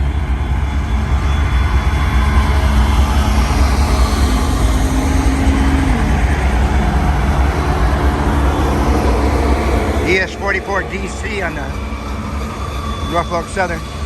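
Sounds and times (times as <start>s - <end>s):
locomotive engine rumble: 1.0s - 14.0s.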